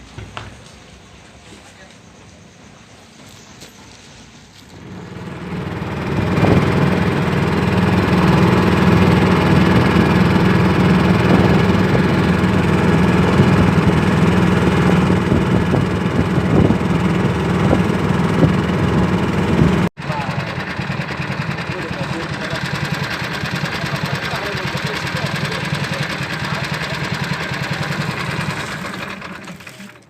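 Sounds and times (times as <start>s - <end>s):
engine running steadily: 4.6s - 30.0s.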